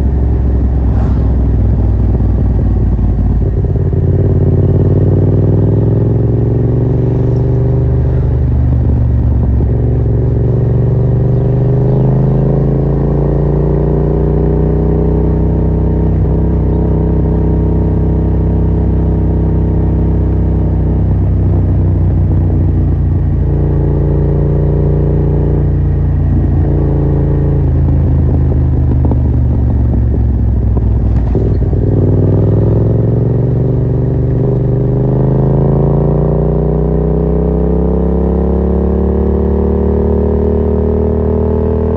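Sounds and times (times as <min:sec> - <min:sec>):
motorcycle engine riding: 0:00.0 - 0:41.9.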